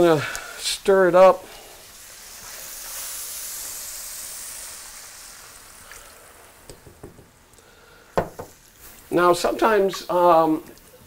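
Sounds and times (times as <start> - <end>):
water sizzling in hot skillet: 0.0 - 11.0.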